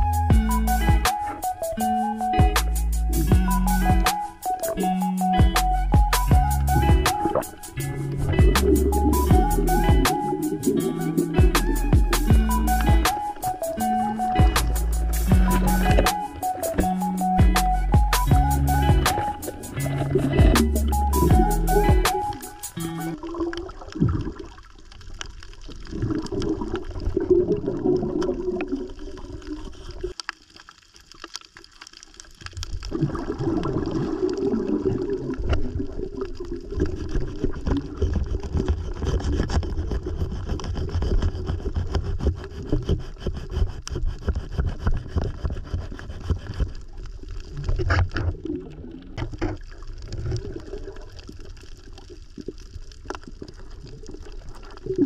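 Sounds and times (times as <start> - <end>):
muffled underwater water rush: 6.7 - 17.4, 18.7 - 21.5, 23.0 - 55.0.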